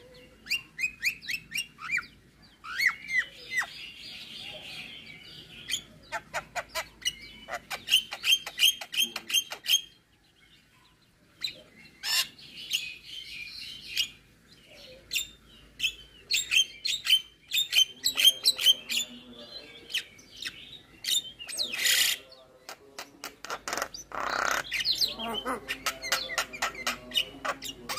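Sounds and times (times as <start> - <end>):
bird chirping and chattering: 0.0 - 27.9.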